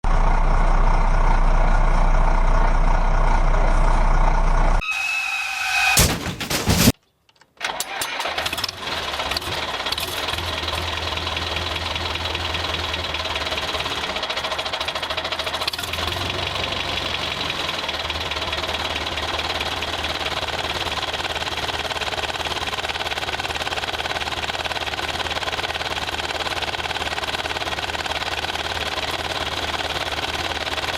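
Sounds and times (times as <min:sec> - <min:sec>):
engine knocking rhythmically: 0:00.0 - 0:04.8, 0:08.7 - 0:30.9.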